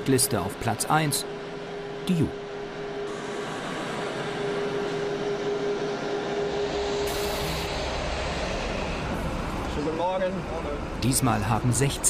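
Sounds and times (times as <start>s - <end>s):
aircraft rush with whine: 0.0s - 12.0s
deep aircraft rumble: 1.3s - 12.0s.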